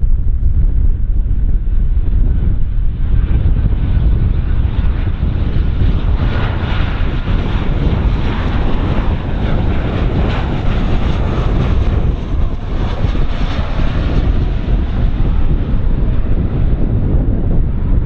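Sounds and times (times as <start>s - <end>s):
wind buffeting microphone: 0.0s - 18.0s
jet engines whining: 0.2s - 18.0s.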